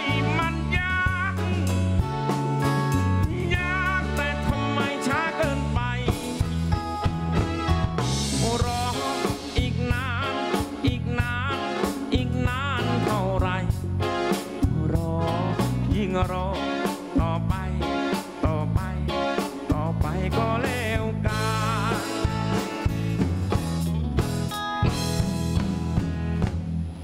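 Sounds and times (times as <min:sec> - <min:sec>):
man singing lead vocals: 0:00.0 - 0:06.8, 0:08.2 - 0:23.1
live band playing: 0:00.0 - 0:27.0.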